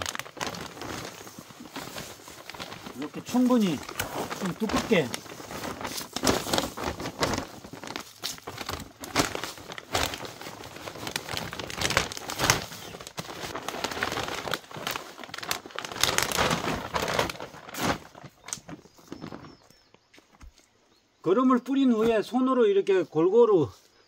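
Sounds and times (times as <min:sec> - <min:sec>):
plastic sack crinkling: 0:00.0 - 0:19.8.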